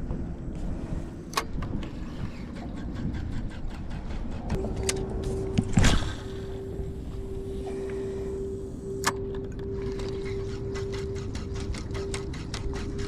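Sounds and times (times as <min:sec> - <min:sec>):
low hum: 0:00.0 - 0:13.0
water noise: 0:00.0 - 0:13.0
wind: 0:00.0 - 0:13.0.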